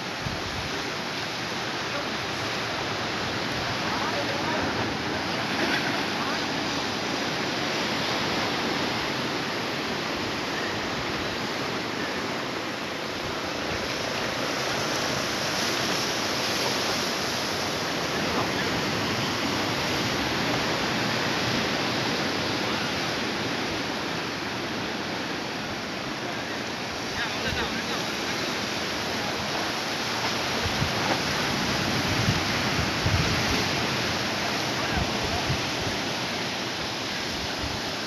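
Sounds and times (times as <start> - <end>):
surf on rocky shore: 0.0 - 38.0.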